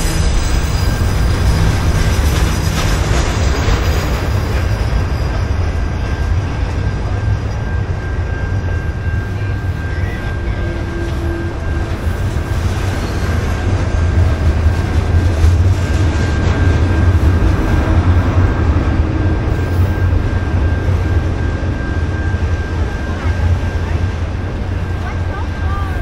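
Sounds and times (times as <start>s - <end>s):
thin high whine: 0.0s - 26.0s
train rumbling past: 0.0s - 26.0s.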